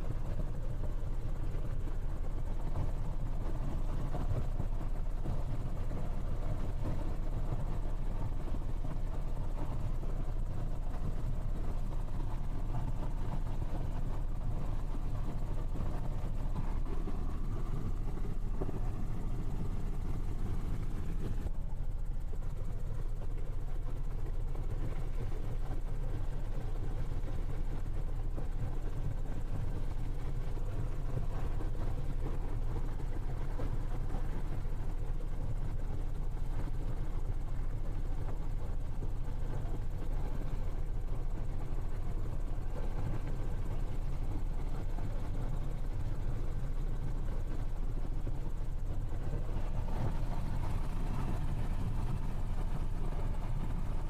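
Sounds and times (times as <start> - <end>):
helicopter cabin drone: 0.0 - 54.0.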